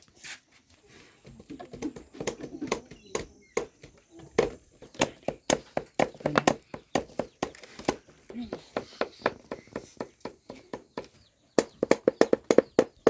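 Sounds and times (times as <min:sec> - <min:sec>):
sharp taps and knocks: 0:01.2 - 0:13.0.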